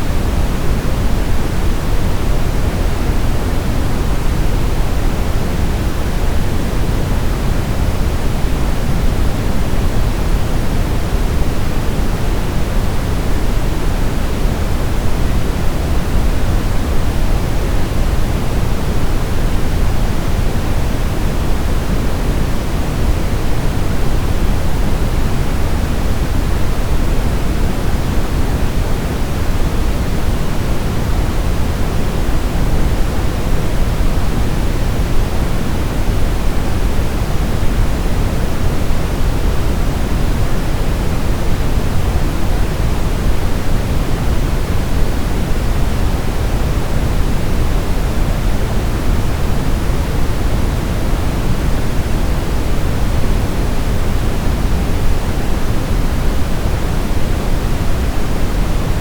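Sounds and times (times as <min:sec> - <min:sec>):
steady brown noise: 0:00.0 - 0:59.0.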